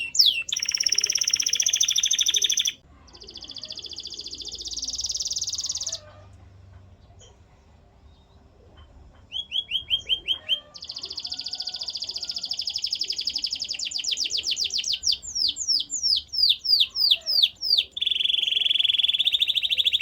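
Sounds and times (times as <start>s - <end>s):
canary singing: 0.0s - 6.3s, 9.2s - 20.0s.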